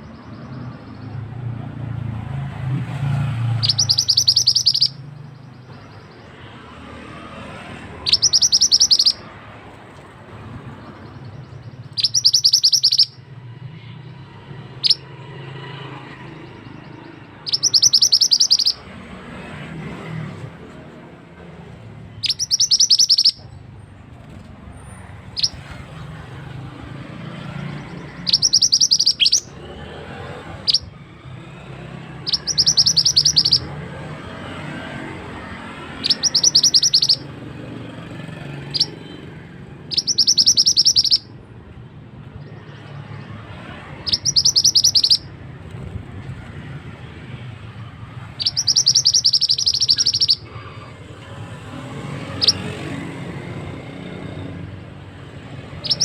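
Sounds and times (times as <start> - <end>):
bird singing trills: 0.0 - 1.5, 3.0 - 19.1, 21.7 - 37.6, 38.2 - 41.4, 42.2 - 45.6, 46.9 - 52.8, 55.4 - 56.0.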